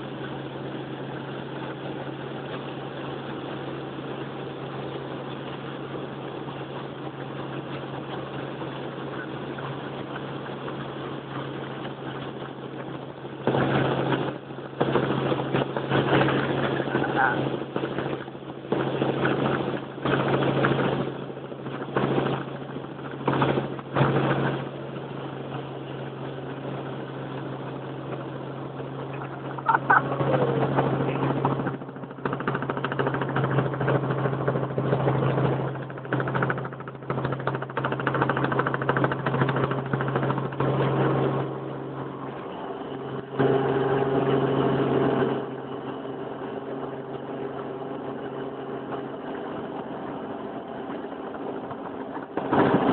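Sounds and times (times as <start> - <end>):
engine running with low hum: 0.0 - 52.9.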